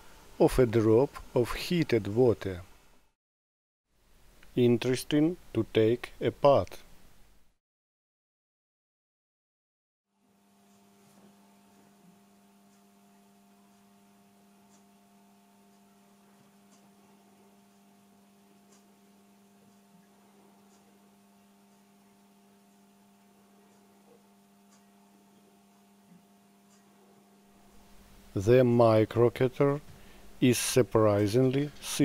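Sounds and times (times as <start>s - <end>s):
low hiss: 0.0s - 3.1s, 4.0s - 7.5s, 10.4s - 32.0s
faint electrical hum: 0.0s - 3.2s, 4.0s - 7.6s, 10.1s - 32.0s.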